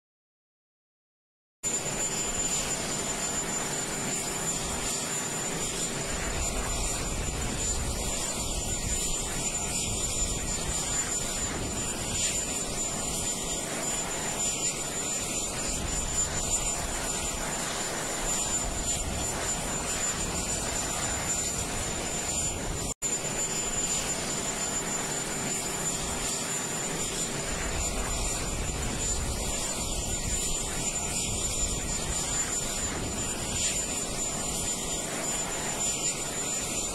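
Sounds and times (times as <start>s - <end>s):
jet aircraft roar: 1.8s - 36.9s.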